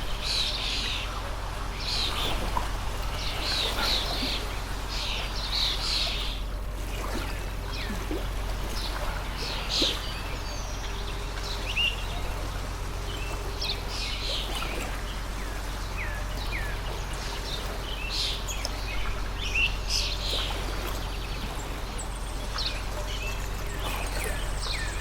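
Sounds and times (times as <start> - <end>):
small birds chirping: 0.0 - 25.0
stream flowing: 0.0 - 25.0.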